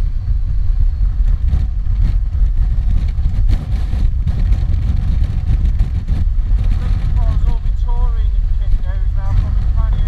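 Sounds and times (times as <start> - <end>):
motorcycle engine rumble: 0.0 - 10.0.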